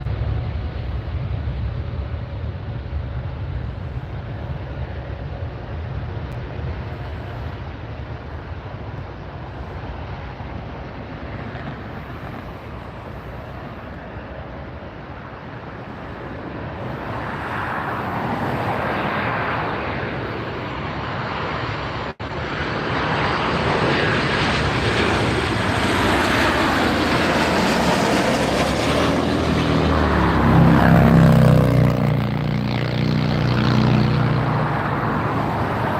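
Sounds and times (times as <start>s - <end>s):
jet engine roar: 0.0s - 35.9s.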